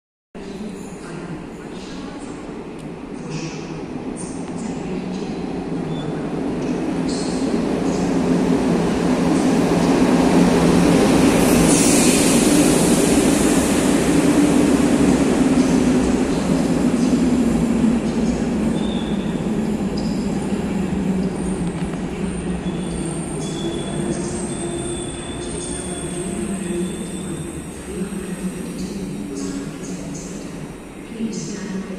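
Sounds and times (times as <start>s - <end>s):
train rumbling into station: 0.4s - 31.9s.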